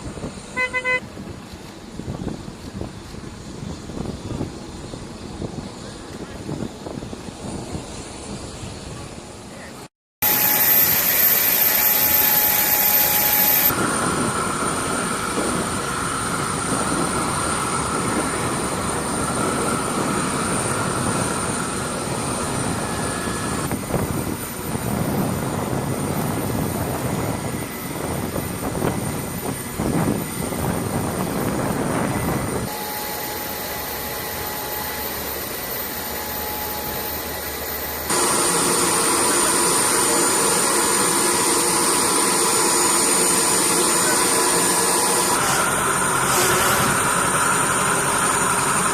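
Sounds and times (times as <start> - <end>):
jet engine rumble with high whine: 0.0 - 48.9.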